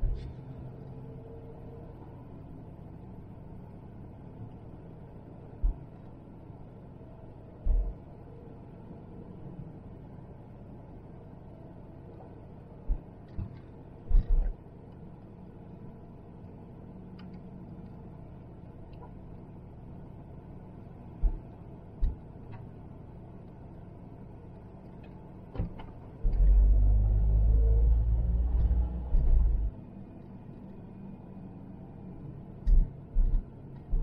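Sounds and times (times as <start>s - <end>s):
distant traffic hum: 0.0s - 34.0s.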